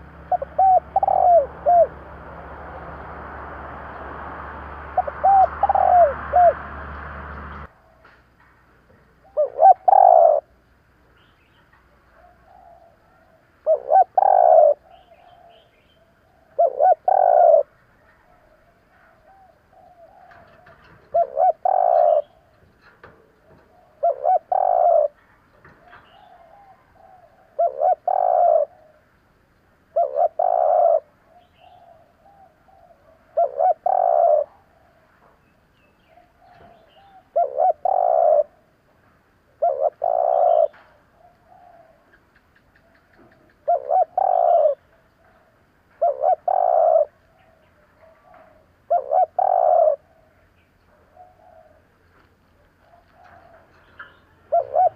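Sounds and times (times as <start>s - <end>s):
dove cooing: 0.0s - 3.0s, 4.5s - 8.0s, 9.2s - 10.6s, 12.1s - 29.1s, 29.9s - 35.1s, 36.0s - 38.8s, 39.5s - 54.9s.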